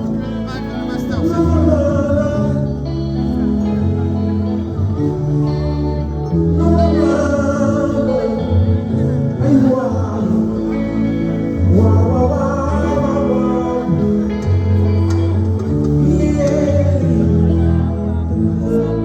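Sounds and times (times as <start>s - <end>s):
man singing: 0.0s - 4.2s, 6.4s - 19.0s
bass notes: 0.0s - 19.0s
guitar: 0.0s - 19.0s.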